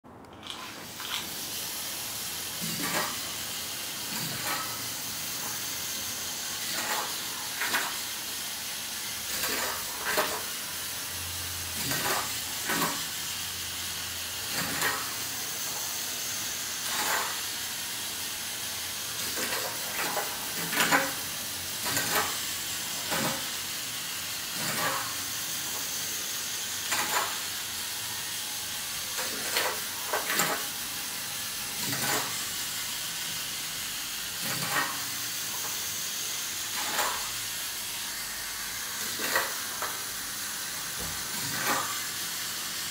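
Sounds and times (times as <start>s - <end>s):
toy car motor and gears whirring: 0.3s - 42.9s.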